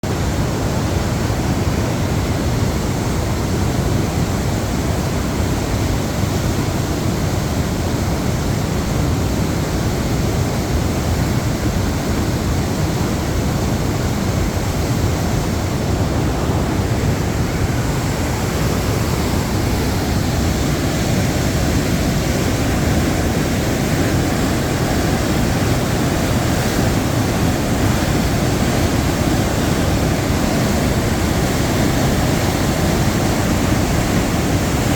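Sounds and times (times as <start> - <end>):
waterfall roaring: 0.0 - 34.9.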